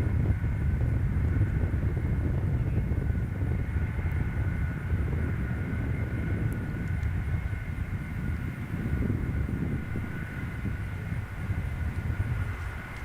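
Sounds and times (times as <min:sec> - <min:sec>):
jet engine high whine: 0:00.0 - 0:13.0
jet engines rumbling: 0:00.0 - 0:13.0.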